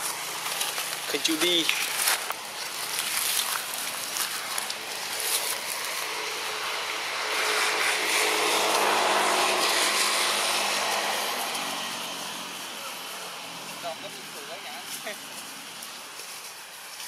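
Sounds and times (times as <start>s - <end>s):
motor vehicle passing: 0.0s - 16.4s.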